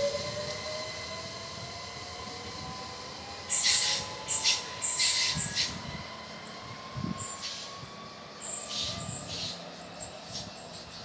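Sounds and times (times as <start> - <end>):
electric train motor whine: 0.0 - 11.0.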